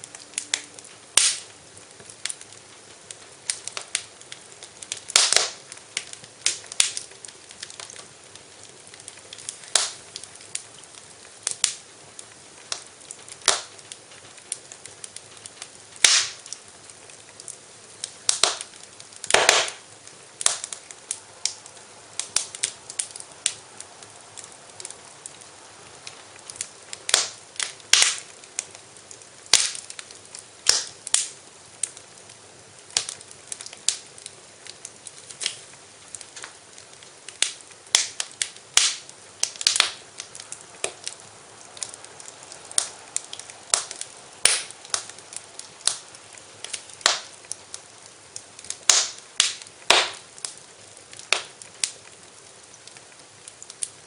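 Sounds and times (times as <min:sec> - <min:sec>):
faint hiss: 0:00.0 - 0:54.0
wood fire crackling and popping: 0:00.0 - 0:54.0.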